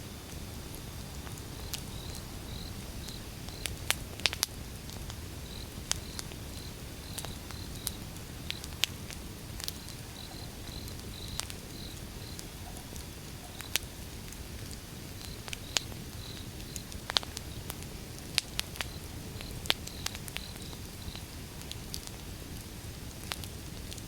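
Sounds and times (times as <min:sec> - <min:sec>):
low rumble of fire: 0:00.0 - 0:24.0
wood fire crackling and popping: 0:00.0 - 0:24.0.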